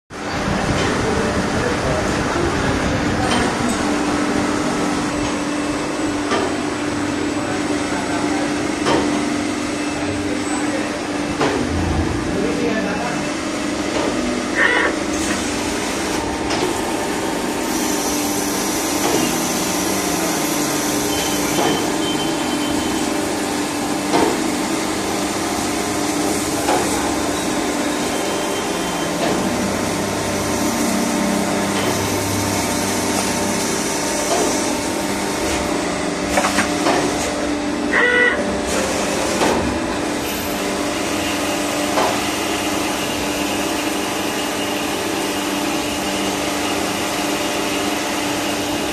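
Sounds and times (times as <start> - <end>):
lathe machine hum: 0.1 - 48.9.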